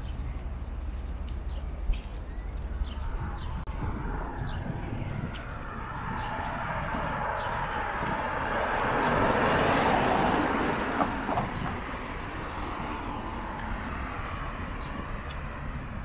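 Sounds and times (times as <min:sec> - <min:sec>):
steady traffic noise: 0:00.0 - 0:16.0
van passing: 0:02.3 - 0:16.0.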